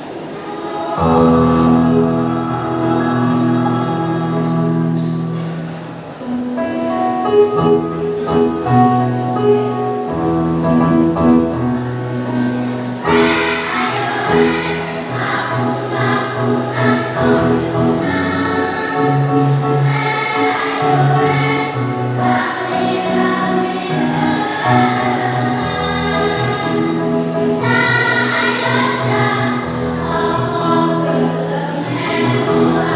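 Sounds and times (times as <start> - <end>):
children's choir singing: 0.0 - 32.9.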